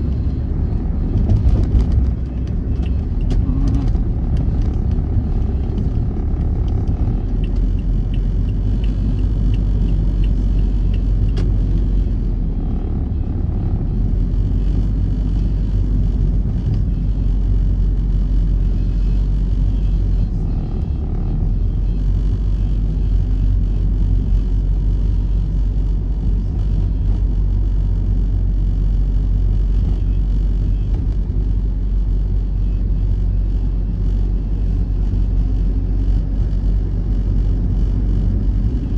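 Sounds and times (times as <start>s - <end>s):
road vehicle low rumble: 0.0s - 38.9s.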